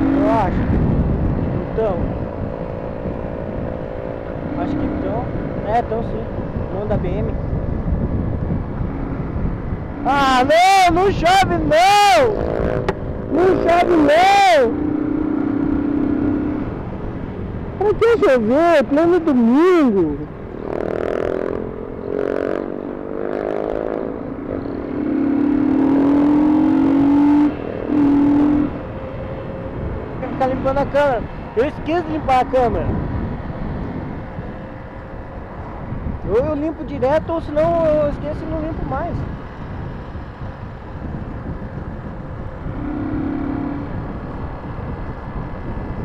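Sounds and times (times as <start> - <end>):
motorcycle engine accelerating: 0.0 - 46.0
road and wind noise: 0.0 - 46.0.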